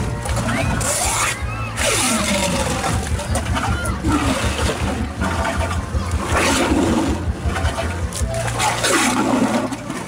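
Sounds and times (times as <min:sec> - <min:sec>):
bilge pump discharging water: 0:00.0 - 0:10.0
low rumble: 0:00.0 - 0:10.0.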